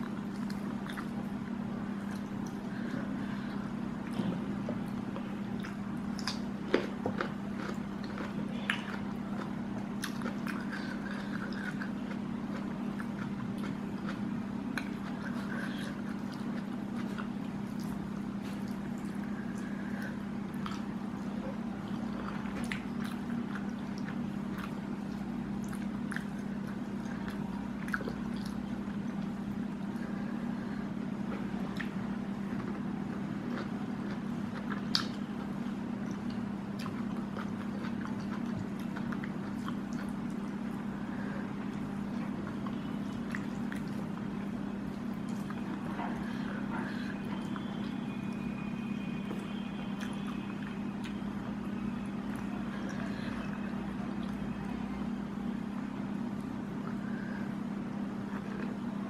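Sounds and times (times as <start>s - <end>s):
chewing and mouth smacks: 0.0s - 30.7s, 31.3s - 48.5s, 49.2s - 54.5s, 57.9s - 58.8s
steady low hum: 0.0s - 59.0s.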